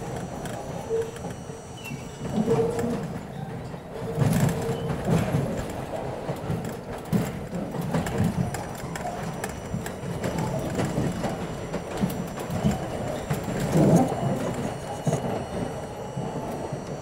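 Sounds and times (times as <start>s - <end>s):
subway car rumble: 0.0s - 17.0s
wheels clunking over rail joints: 0.0s - 17.0s.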